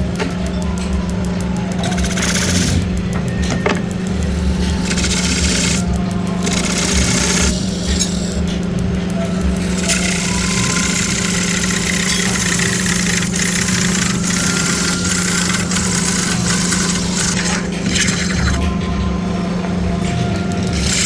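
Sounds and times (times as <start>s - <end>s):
electric motor whirring: 0.0s - 21.0s.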